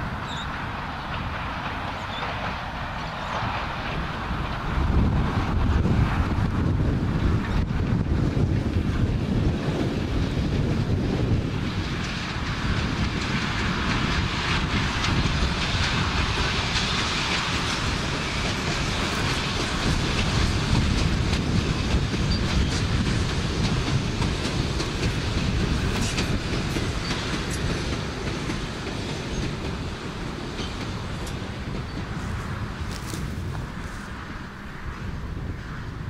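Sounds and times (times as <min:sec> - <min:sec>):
train carriages rumbling past: 0:00.0 - 0:36.0
wheels clicking over track: 0:00.3 - 0:34.3.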